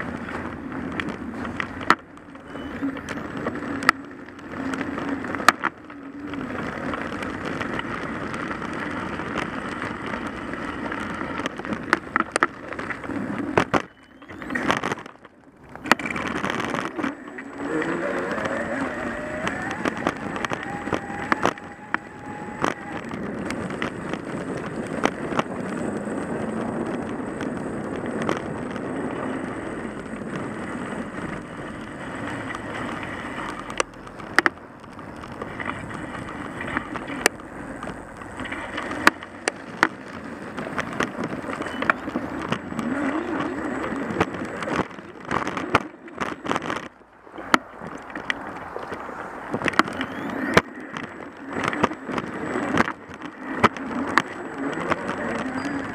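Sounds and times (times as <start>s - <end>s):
tyre and road noise: 0.0s - 55.9s.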